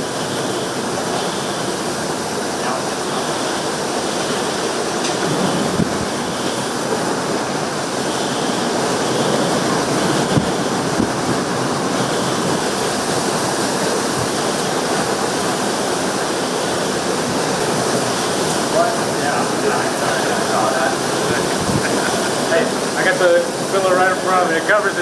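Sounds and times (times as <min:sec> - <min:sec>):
heavy rain: 0:00.0 - 0:25.0
hurricane wind: 0:00.0 - 0:25.0.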